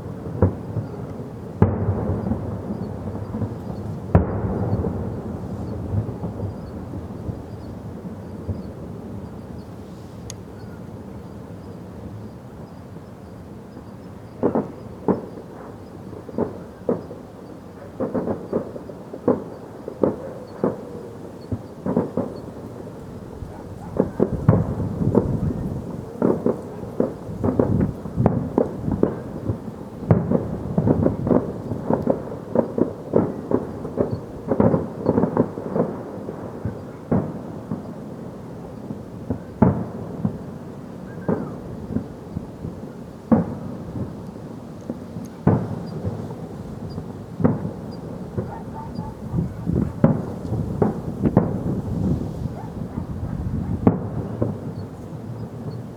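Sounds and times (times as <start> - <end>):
fireworks bangs and booms: 0.0 - 55.9.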